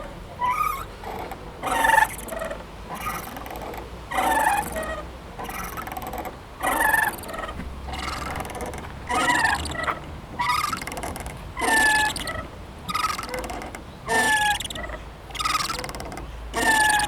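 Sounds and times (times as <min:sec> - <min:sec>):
playground swing squeaking: 0:00.0 - 0:17.0.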